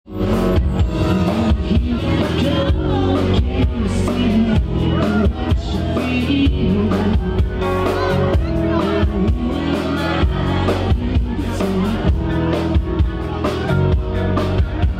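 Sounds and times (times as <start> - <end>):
electric bass: 0.0 - 14.9
drums beating: 0.1 - 14.9
electric guitar: 0.1 - 14.9
person singing: 0.2 - 14.9.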